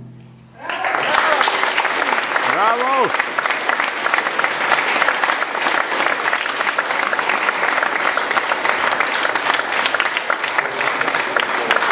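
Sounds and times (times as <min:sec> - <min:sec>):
audience applauding: 0:00.6 - 0:11.9.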